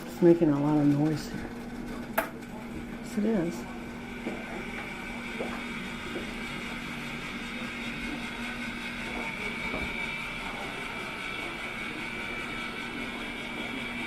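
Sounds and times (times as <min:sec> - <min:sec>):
appliance motor humming and whining: 0:00.0 - 0:14.0.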